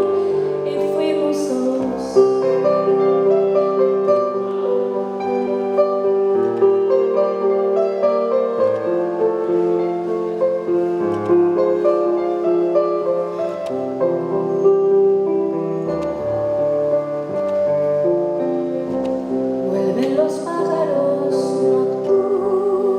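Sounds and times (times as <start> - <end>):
slow piano melody: 0.0 - 22.9.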